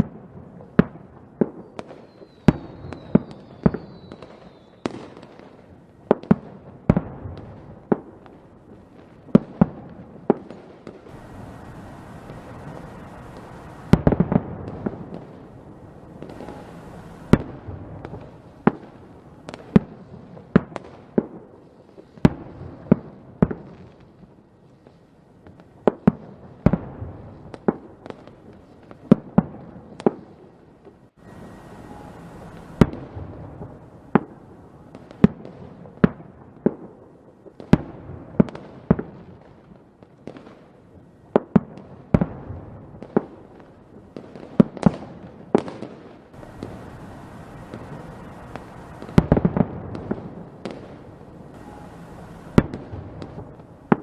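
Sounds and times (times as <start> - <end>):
fireworks bangs: 0.0 - 54.0
fireworks crackle and rumble: 0.0 - 54.0.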